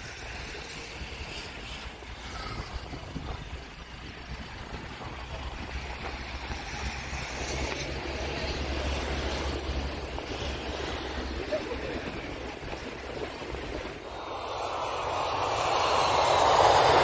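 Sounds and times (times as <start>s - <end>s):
distant jet engines roaring: 0.0s - 17.0s.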